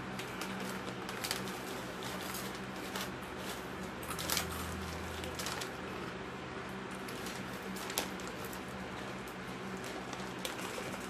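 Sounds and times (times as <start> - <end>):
snack bags crinkling: 0.0 - 6.2, 6.9 - 11.0.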